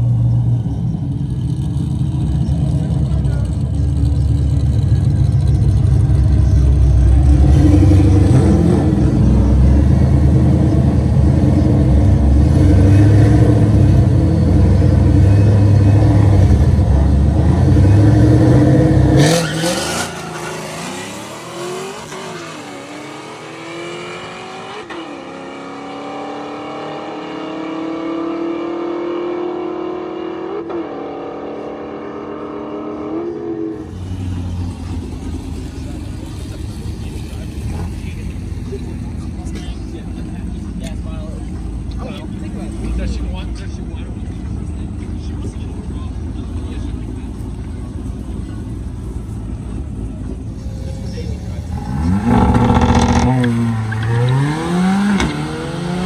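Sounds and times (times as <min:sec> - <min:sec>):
cars accelerating and shifting gears: 0:00.0 - 0:56.0
race car engines rumbling: 0:00.0 - 0:56.0.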